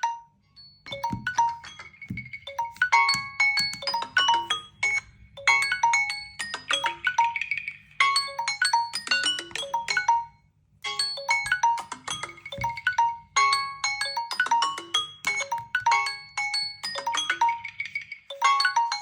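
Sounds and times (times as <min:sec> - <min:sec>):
marimba-like ringtone melody: 0:00.0 - 0:19.0.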